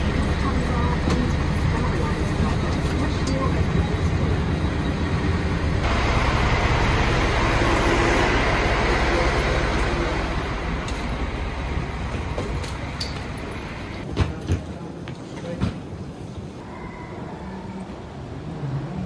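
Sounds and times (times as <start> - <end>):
bus engine rumble: 0.0 - 16.6.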